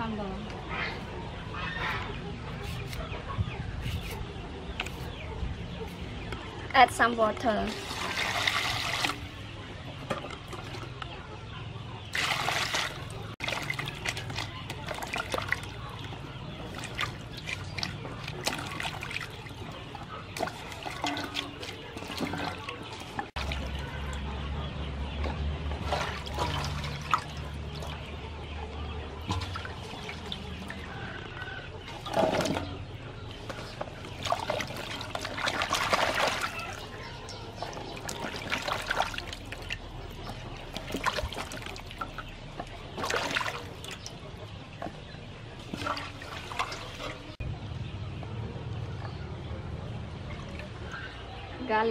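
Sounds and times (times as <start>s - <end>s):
water sloshing and splashing: 5.7s - 47.5s.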